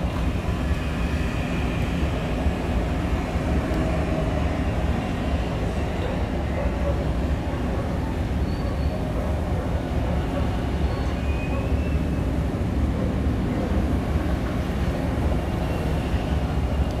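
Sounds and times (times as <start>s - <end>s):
ferry engines low rumble: 0.0s - 17.0s.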